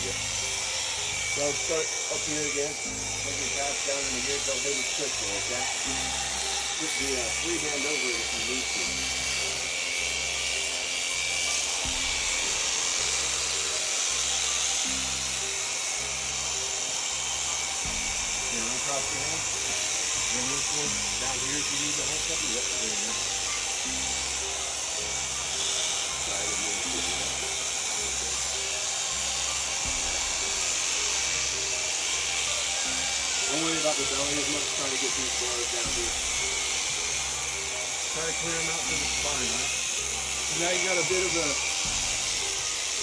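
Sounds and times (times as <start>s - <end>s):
electric shearing handpiece whining: 0.0s - 43.0s
music playing: 0.0s - 43.0s.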